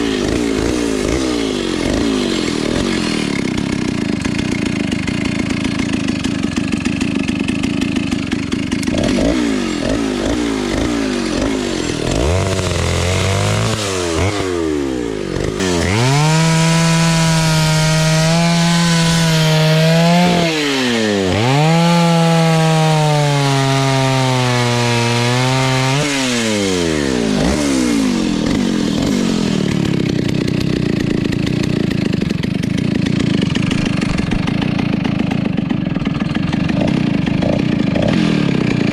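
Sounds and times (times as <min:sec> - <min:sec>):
chainsaw cutting wood: 0:00.0 - 0:38.9
chainsaw idling and revving: 0:00.0 - 0:38.9.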